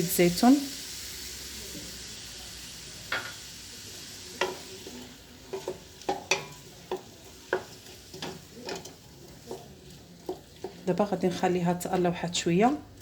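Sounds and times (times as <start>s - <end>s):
onion sizzling in a pot: 0.0s - 13.0s.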